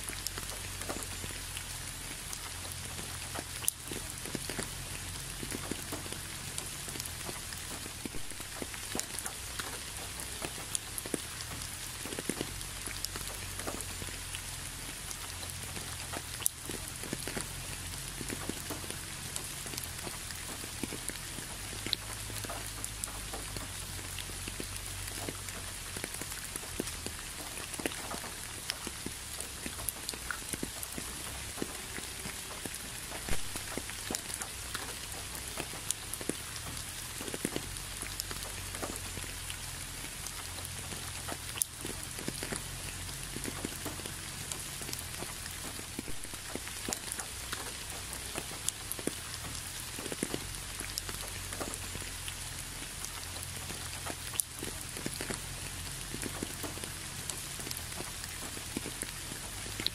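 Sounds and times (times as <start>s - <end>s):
rain drops ticking: 0.0s - 59.9s
rain hiss: 0.0s - 59.9s.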